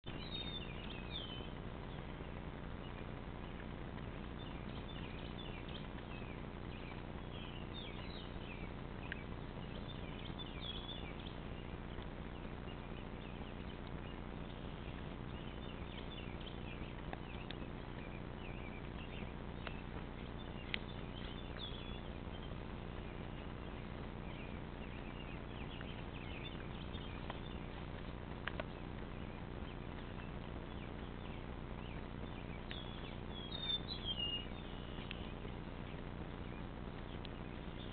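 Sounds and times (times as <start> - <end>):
steady low hum: 0.1 - 37.9.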